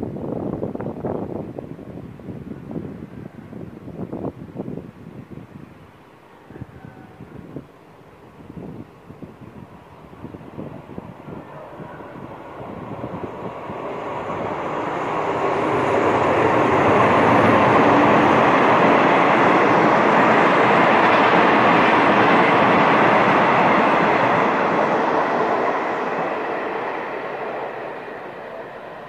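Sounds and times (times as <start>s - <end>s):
passenger train passing: 0.0s - 29.0s.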